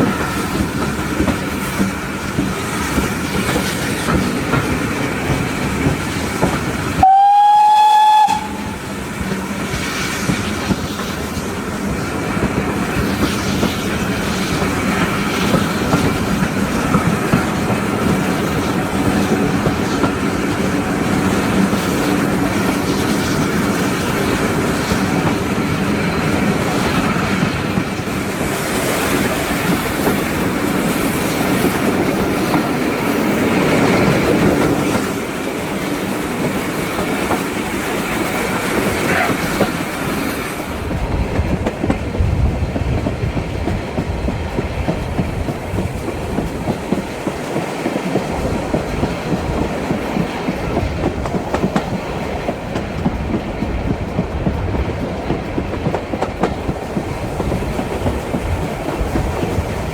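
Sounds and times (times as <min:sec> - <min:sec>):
steam train running: 0:00.0 - 0:59.9.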